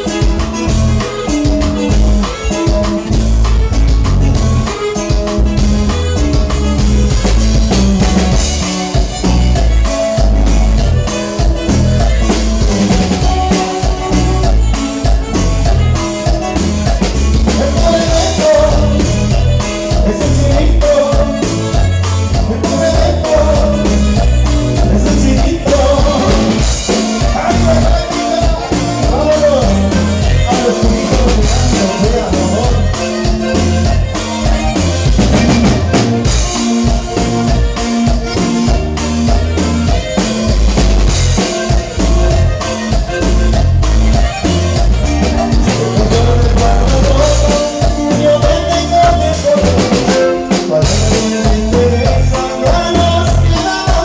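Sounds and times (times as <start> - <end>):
drum kit beat: 0.0 - 54.0
live band playing dance music: 0.0 - 54.0.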